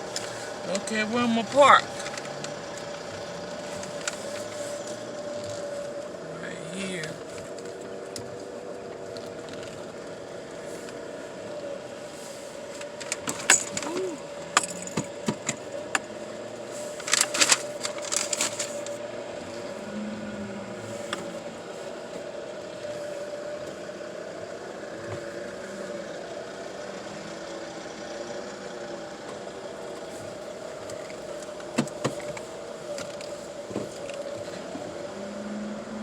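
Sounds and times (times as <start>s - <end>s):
car engine hum: 0.0s - 36.0s.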